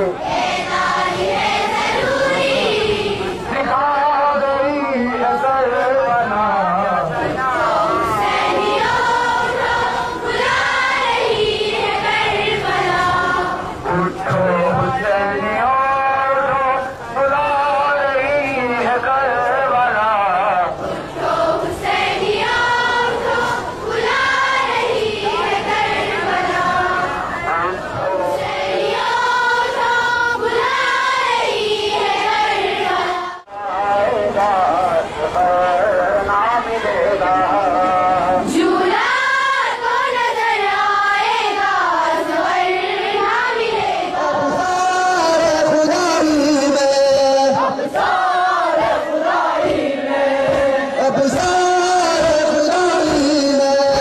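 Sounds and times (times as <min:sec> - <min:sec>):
children singing a lament: 0:00.0 - 0:54.0.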